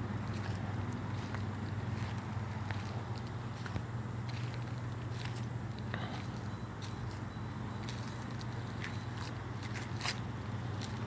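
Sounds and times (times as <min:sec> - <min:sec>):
pickup engine humming: 0:00.0 - 0:11.0.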